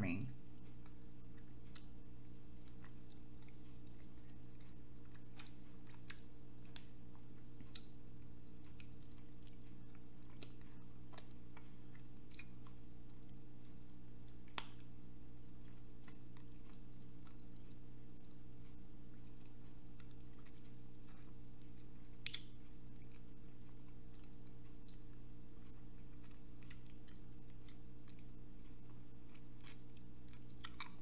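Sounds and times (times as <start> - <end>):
chewing and biting wet clicks: 0.5 - 31.0.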